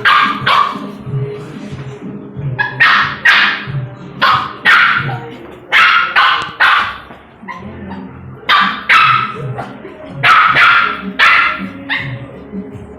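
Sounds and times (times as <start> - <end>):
dog barking loudly: 0.0 - 1.0, 2.6 - 12.2.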